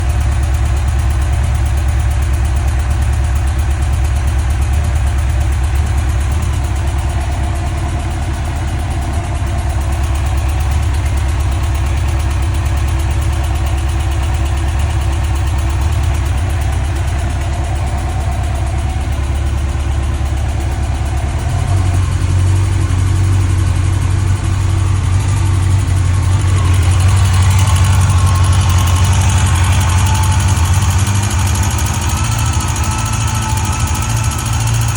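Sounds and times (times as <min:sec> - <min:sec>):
engine ticking: 0:00.0 - 0:34.9
motorcycle engine idling: 0:00.0 - 0:34.9.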